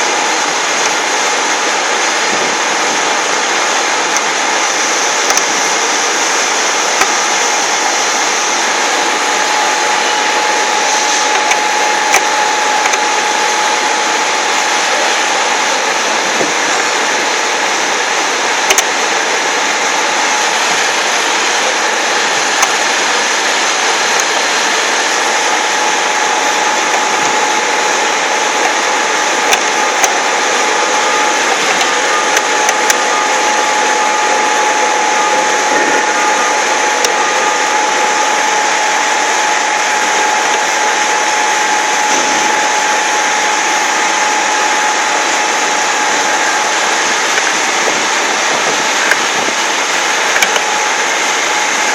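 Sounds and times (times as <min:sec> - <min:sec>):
grinder whirring with whine: 0:00.0 - 0:51.9.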